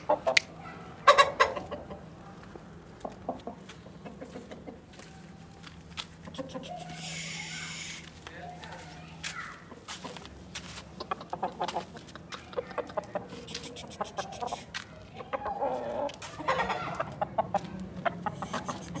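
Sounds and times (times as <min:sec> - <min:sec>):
rooster clucking: 0:00.0 - 0:02.2, 0:03.0 - 0:05.0, 0:06.2 - 0:08.2, 0:09.7 - 0:19.0.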